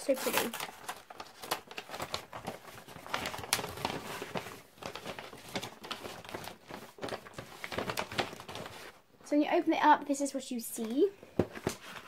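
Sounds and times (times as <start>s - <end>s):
paper packaging rustling: 0.0s - 9.0s, 11.4s - 12.0s.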